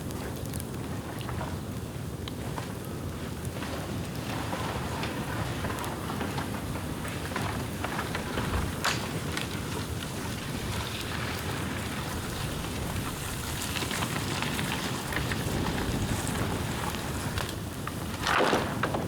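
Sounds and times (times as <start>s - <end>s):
bamboo fire crackling and popping: 0.0s - 19.0s.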